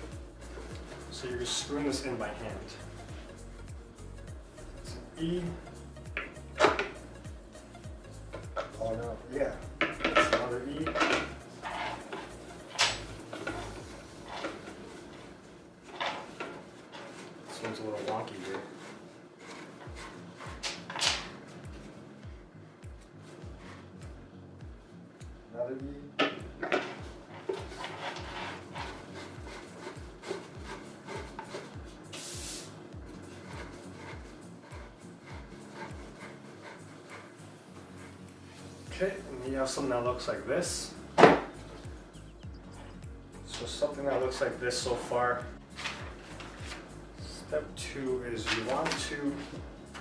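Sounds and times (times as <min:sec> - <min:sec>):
background music with low beat: 0:00.0 - 0:50.0
rubbing and light knocks: 0:05.6 - 0:22.0, 0:26.3 - 0:50.0.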